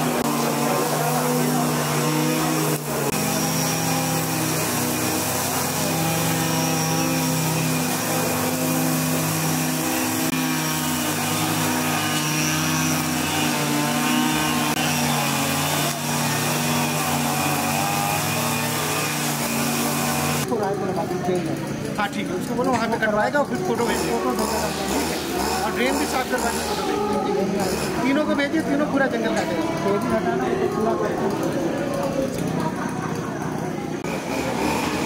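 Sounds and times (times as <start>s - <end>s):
string trimmer engine running: 0.0s - 35.0s.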